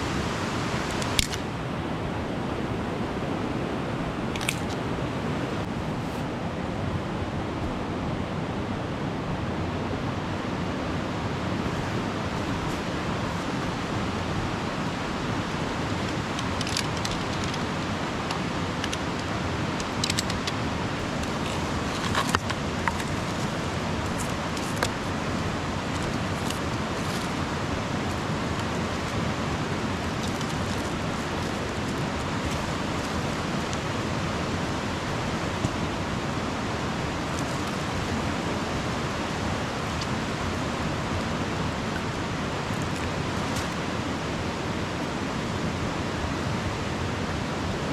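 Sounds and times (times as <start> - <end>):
river rushing: 0.0 - 47.9.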